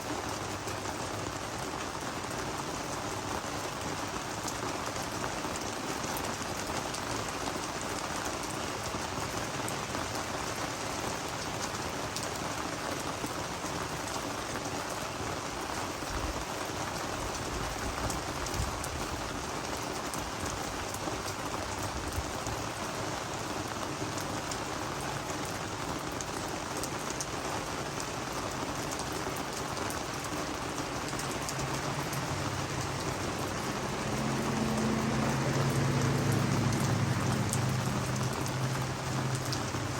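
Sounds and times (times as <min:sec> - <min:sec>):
rain falling on plants: 0:00.0 - 0:39.9.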